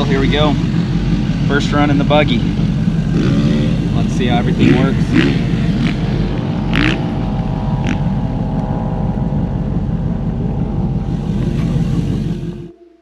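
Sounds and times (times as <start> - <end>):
v eight engine running: 0.0 - 12.9.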